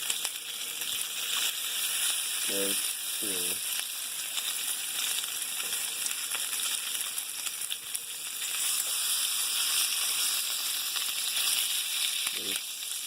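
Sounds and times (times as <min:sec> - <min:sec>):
bacon sizzling in a frying pan: 0:00.0 - 0:13.0.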